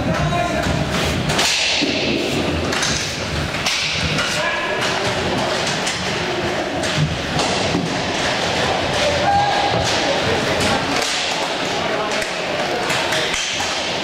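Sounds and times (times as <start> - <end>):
hockey sticks and puck knocking: 0.0 - 14.0
steady rolling noise of skates: 0.0 - 14.0.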